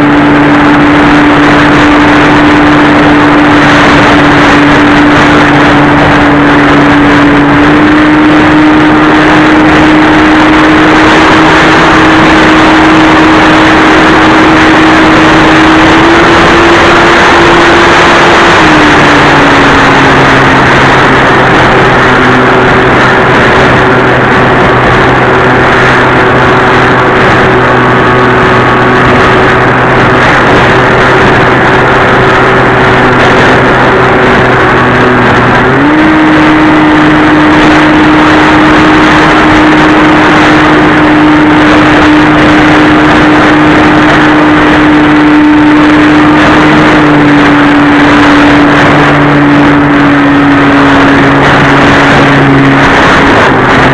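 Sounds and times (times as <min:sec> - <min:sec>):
wind rush: 0:00.0 - 0:53.9.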